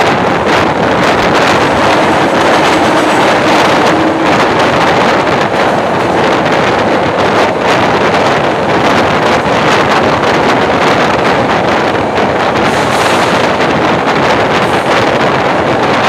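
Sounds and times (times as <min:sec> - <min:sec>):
train rushing through tunnel: 0:00.0 - 0:16.0
wind buffeting microphone: 0:00.0 - 0:16.0.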